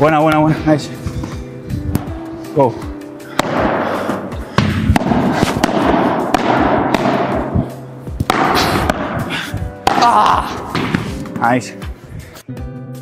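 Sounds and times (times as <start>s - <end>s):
rackets hitting ball: 0.2s - 2.3s, 3.2s - 11.6s.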